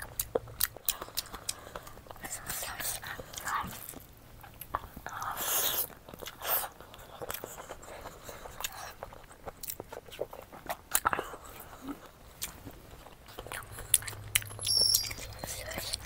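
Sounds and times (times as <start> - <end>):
person chewing and smacking: 0.0 - 16.0.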